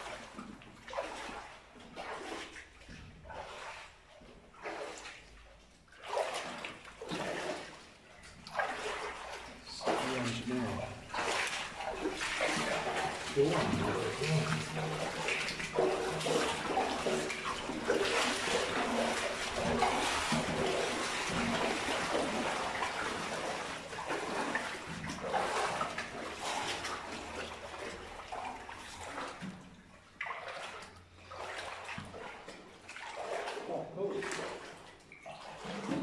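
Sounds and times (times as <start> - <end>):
water splashing and sloshing: 0.0 - 36.0.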